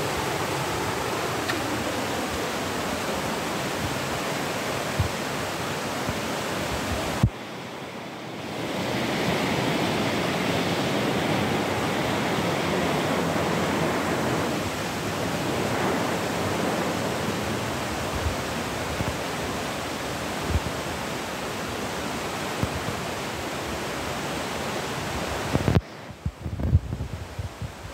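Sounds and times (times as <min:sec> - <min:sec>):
river rushing over rocks: 0:00.0 - 0:27.9
wind on microphone: 0:00.0 - 0:27.9.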